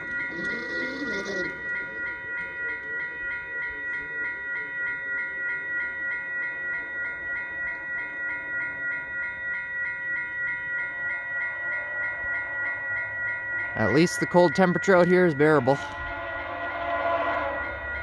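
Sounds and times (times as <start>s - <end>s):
level-crossing bell ringing: 0.0s - 18.0s.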